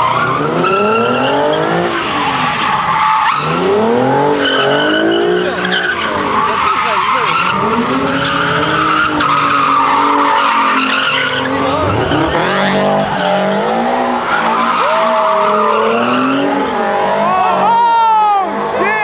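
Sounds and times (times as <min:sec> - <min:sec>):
car engine revving: 0:00.0 - 0:17.8
tyres squealing: 0:00.1 - 0:17.8.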